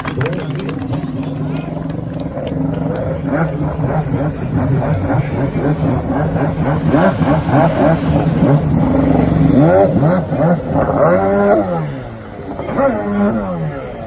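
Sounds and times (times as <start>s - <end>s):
jet ski engine revving: 0.0s - 14.0s.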